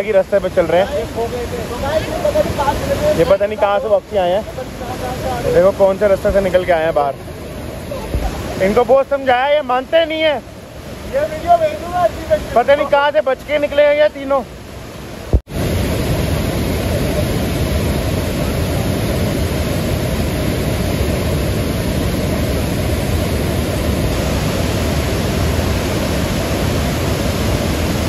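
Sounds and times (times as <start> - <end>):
river rushing over boulders: 0.0 - 28.0.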